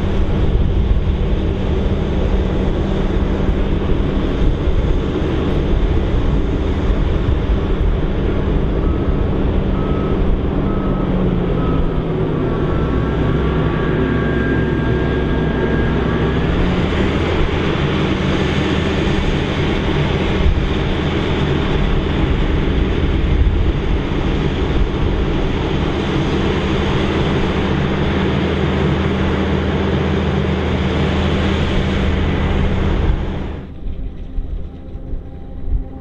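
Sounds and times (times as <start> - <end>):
forage harvester engine hum: 0.0 - 36.0.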